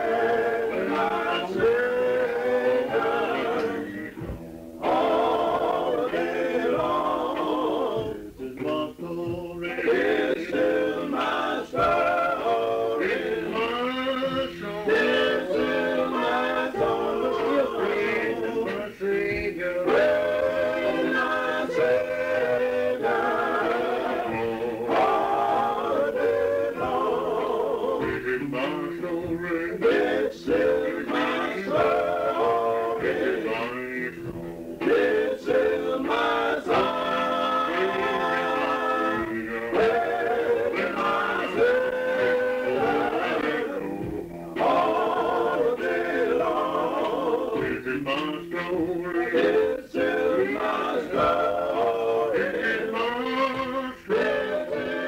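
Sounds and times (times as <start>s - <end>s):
song with male vocals: 0.0s - 55.0s.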